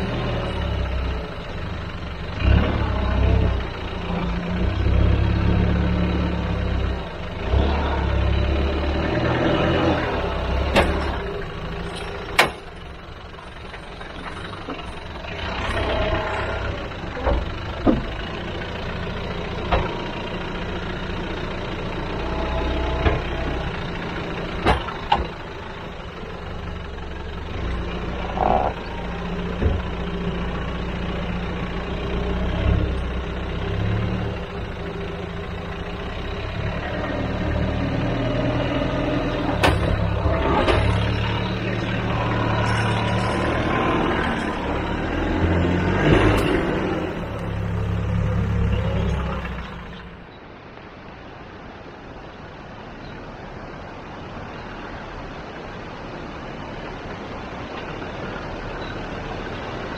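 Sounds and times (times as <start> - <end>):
diesel engine at low revs: 0.0 - 59.9.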